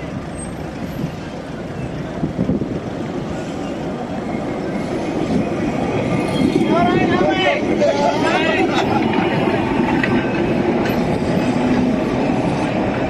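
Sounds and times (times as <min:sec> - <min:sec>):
electric tram rumbling: 0:00.0 - 0:13.0.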